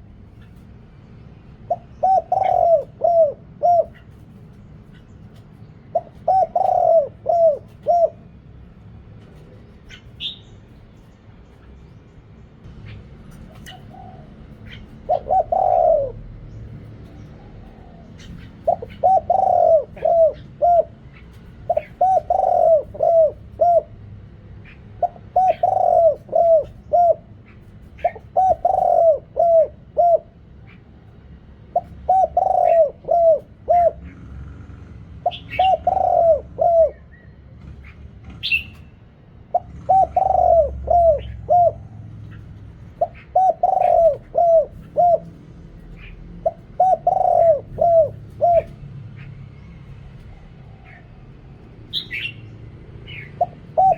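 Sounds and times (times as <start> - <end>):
dove cooing: 0.0 - 10.8, 12.7 - 53.9.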